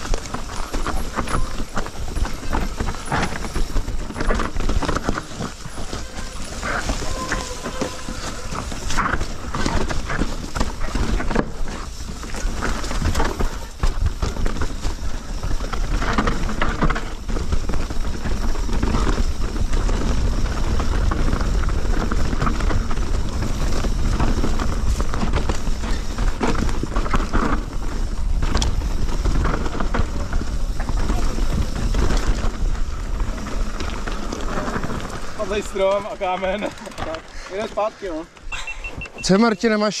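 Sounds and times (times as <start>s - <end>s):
wind buffeting microphone: 0.0s - 39.2s
mountain bike rattling over dirt trail: 0.0s - 40.0s
tyres rolling on ground: 0.0s - 40.0s.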